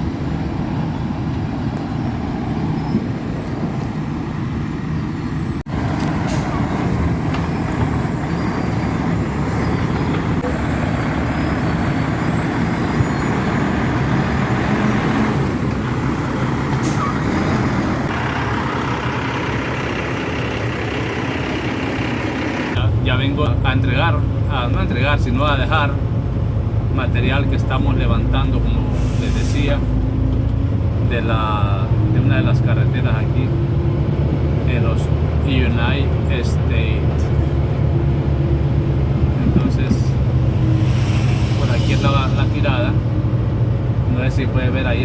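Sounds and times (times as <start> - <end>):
dump truck engine and road noise: 0.0 - 45.0.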